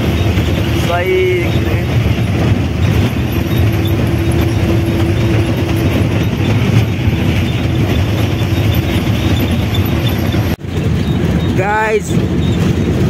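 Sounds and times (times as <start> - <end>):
steady whine: 0.0 - 12.8
bus engine and road noise: 0.0 - 13.0
rattle of rough road surface: 0.0 - 13.0.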